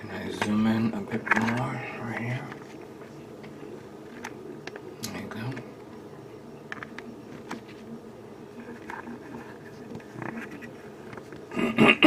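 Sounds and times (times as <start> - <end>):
low buzzing hum: 0.0 - 12.0.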